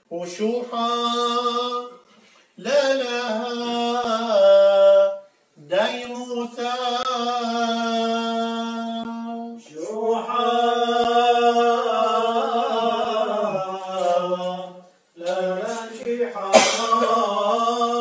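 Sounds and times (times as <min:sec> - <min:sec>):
man chanting unaccompanied: 0:00.0 - 0:02.0, 0:02.6 - 0:18.0.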